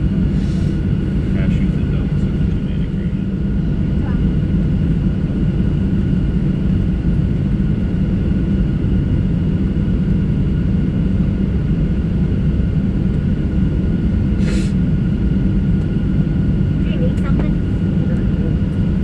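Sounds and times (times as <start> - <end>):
jet engines idling rumble: 0.0 - 19.0.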